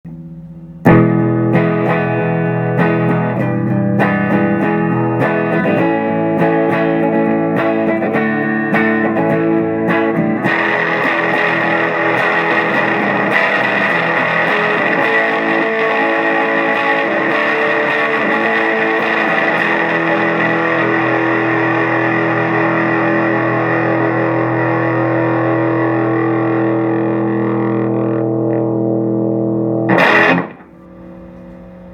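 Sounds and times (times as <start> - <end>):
fuzz electric guitar: 0.8 - 31.4.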